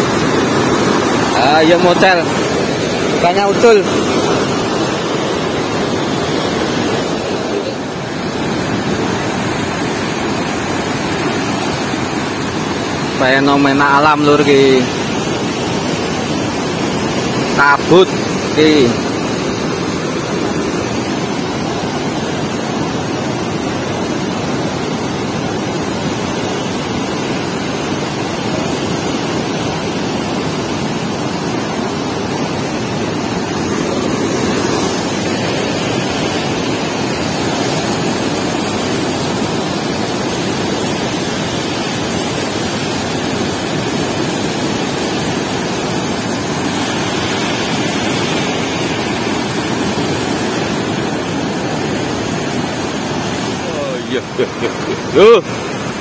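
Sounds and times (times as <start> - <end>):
loud rush of water: 0.0 - 56.0.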